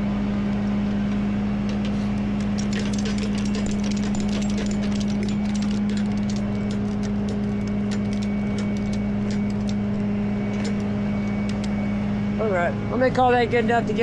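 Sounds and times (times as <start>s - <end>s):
truck engine idling: 0.0s - 14.0s
light clicks and clinks: 0.5s - 11.8s.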